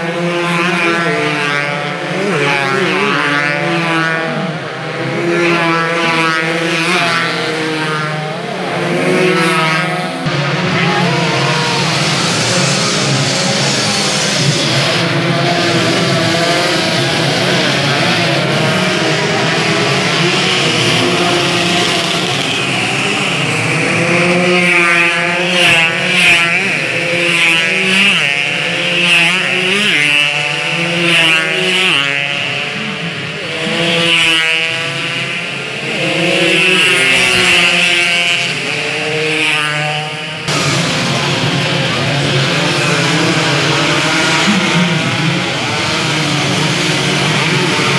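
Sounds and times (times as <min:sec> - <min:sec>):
racing motorcycle engines revving: 0:00.0 - 0:47.9.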